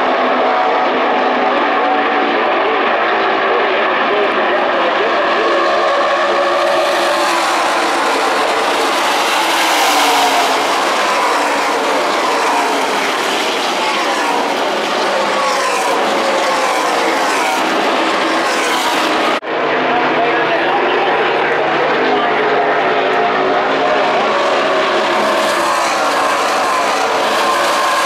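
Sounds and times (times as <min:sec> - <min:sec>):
race engines at full throttle: 0:00.0 - 0:28.0.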